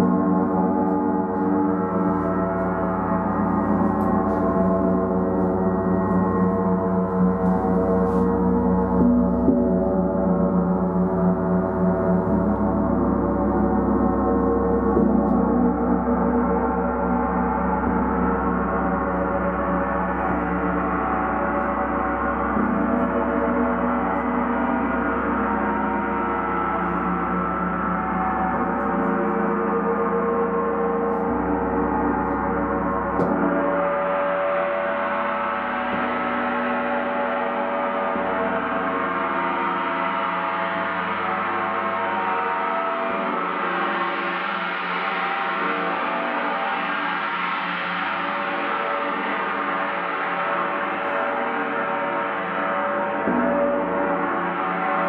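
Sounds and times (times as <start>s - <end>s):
gong ringing: 0.0s - 44.2s.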